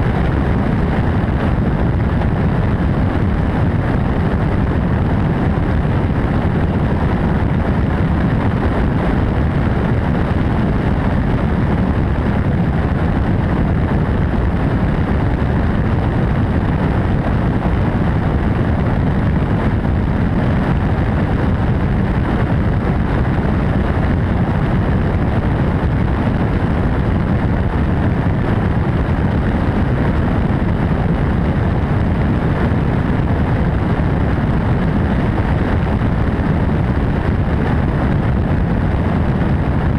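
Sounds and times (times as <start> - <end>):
helicopter turbine and rotor: 0.0 - 39.9
wind on microphone: 0.0 - 39.9.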